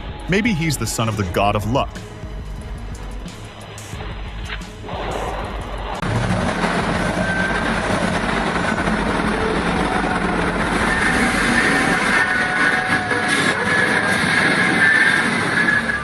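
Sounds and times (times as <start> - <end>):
heavy vehicle rumbling: 0.0 - 16.0.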